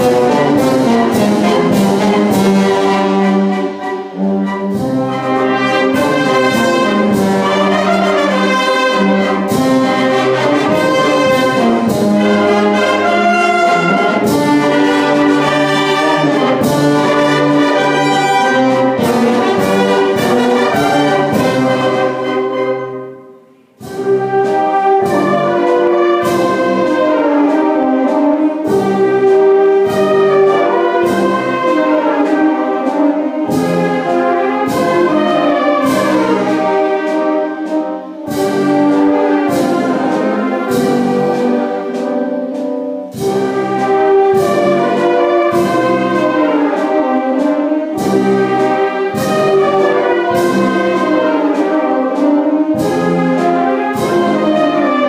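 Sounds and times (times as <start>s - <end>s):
wind band playing slow passage: 0.0s - 55.0s.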